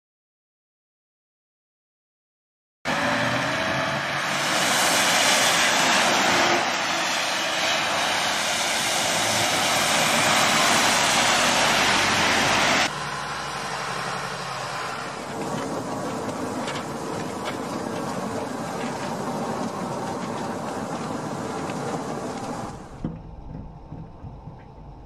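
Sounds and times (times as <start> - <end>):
car road and wind noise: 2.9 - 25.0.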